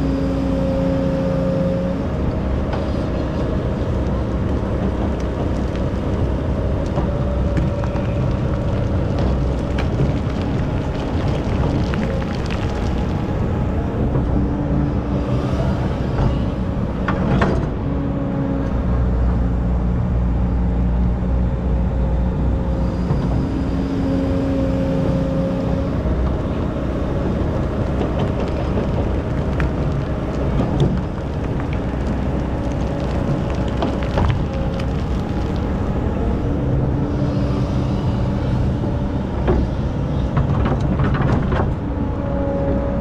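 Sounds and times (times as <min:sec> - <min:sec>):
excavator diesel engine: 0:00.0 - 0:43.0.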